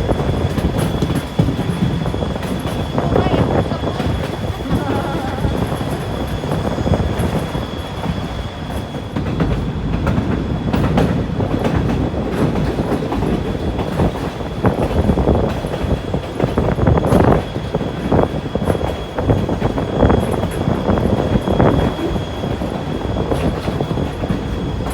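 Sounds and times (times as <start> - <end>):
train rumble: 0.0 - 24.9
wheels clacking over rail joints: 0.0 - 24.9.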